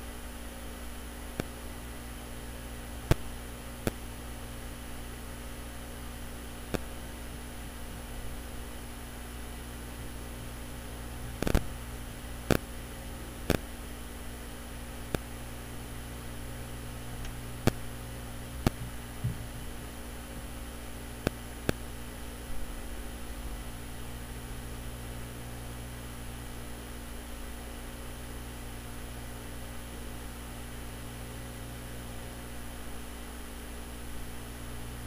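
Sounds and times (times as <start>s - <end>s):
electrical hum and hiss: 0.0s - 35.0s.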